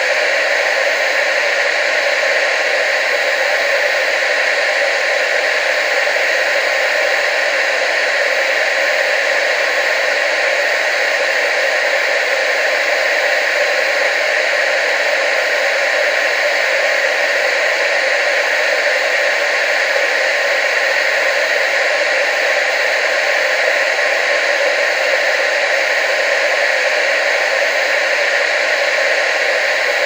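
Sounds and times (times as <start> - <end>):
television static hiss: 0.0 - 30.0.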